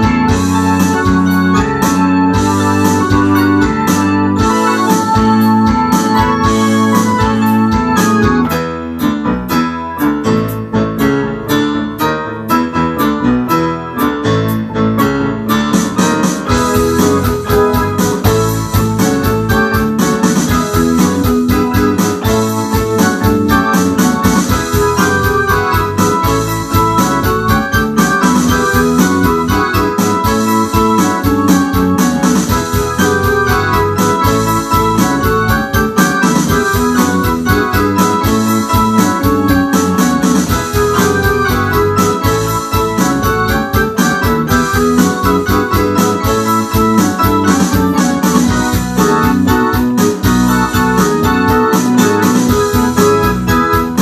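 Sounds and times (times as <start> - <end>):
synthesizer keyboard chords and runs: 0.0 - 54.0.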